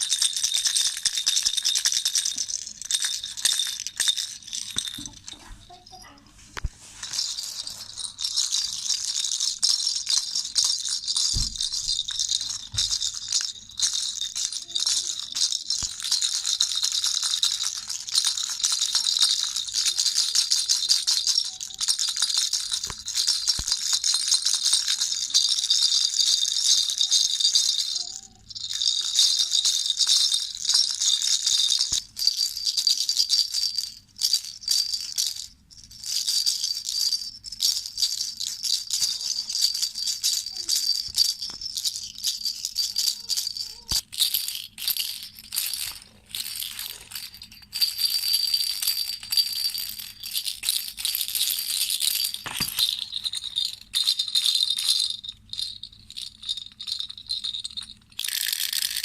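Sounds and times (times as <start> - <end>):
baby rattle shaken quickly: 0.0 - 59.0.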